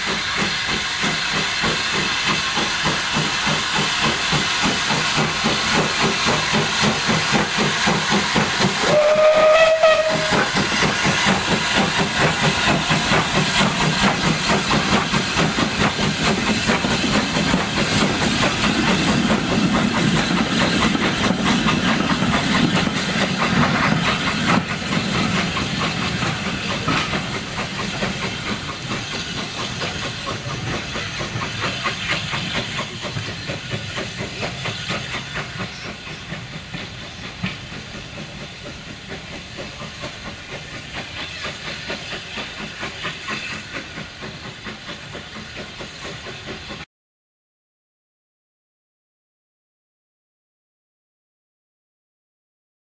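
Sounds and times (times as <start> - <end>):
steam hissing: 0.0 - 46.8
steam locomotive exhaust beats: 0.0 - 46.9.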